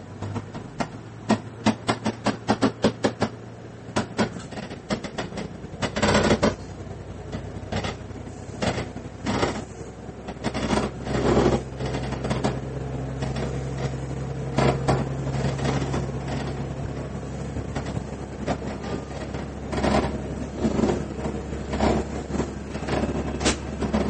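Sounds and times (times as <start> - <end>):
diesel engine drone: 0.0 - 24.0
train wheel and rail noise: 0.0 - 24.0
wheels knocking over rail joints: 0.0 - 24.0.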